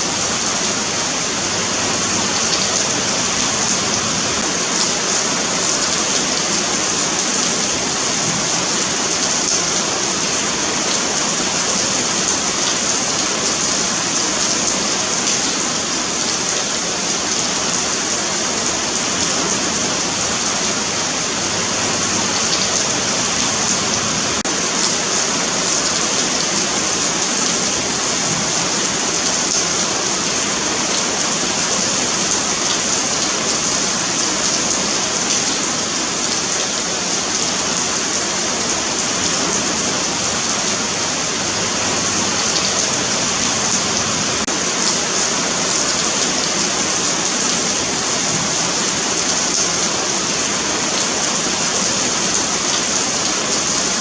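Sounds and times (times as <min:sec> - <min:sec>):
rain on pavement: 0:00.0 - 0:54.0.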